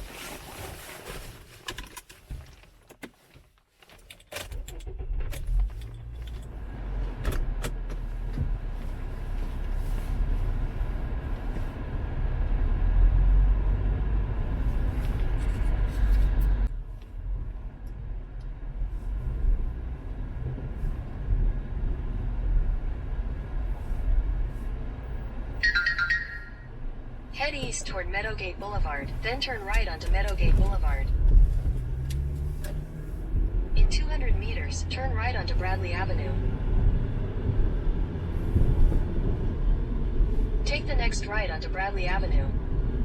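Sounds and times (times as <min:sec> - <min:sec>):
car engine starting and running: 0:01.5 - 0:43.0.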